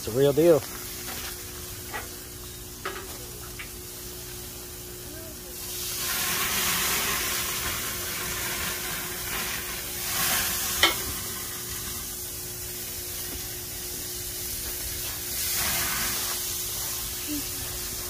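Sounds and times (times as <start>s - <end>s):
steaks sizzling on a grill: 0.0s - 18.0s.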